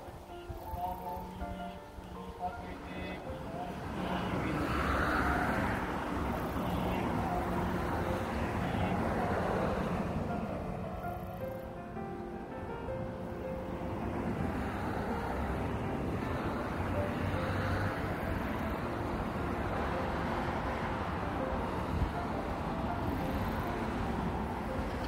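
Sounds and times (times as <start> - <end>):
faint music notes: 0.0 - 25.0
outdoor rumble and hiss: 0.0 - 25.0.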